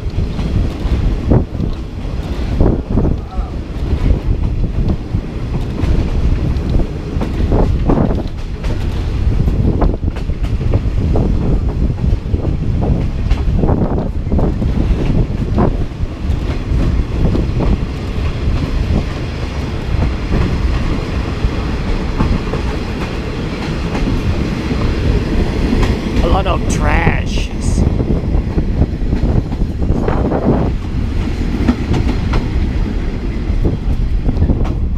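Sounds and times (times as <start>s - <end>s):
train rumbling on rails: 0.0s - 34.9s.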